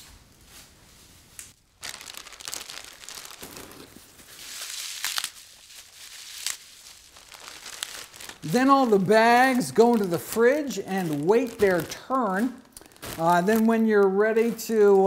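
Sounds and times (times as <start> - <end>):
leafy greens rustling: 0.0 - 15.0
plastic bag crinkling: 1.6 - 15.0.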